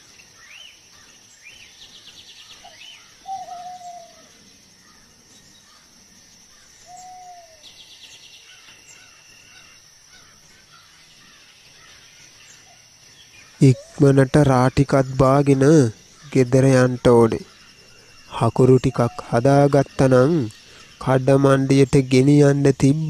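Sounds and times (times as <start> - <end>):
birdsong chirps and trills: 0.0 - 23.0.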